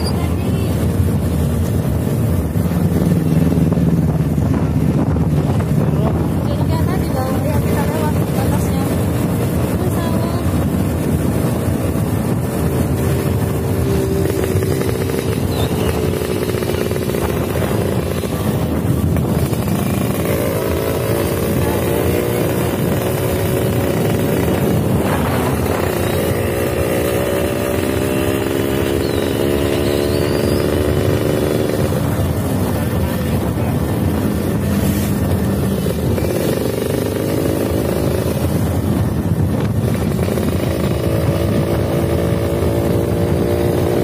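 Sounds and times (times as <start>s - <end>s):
motorcycle engine running: 0.0s - 44.0s
wind rushing on microphone: 0.0s - 44.0s.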